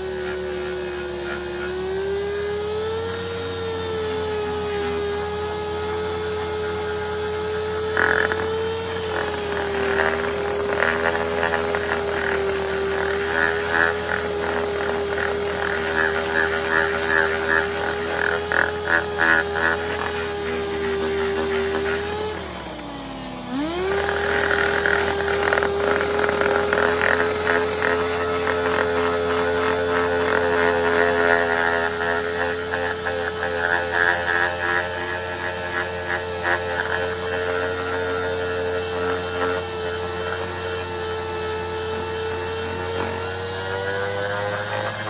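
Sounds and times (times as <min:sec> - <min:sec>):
angle grinder on metal: 0:00.0 - 0:45.0.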